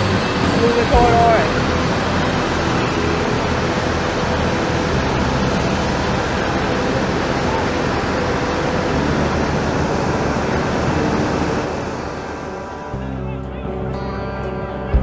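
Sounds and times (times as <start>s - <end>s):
flood water roaring: 0.0s - 13.2s.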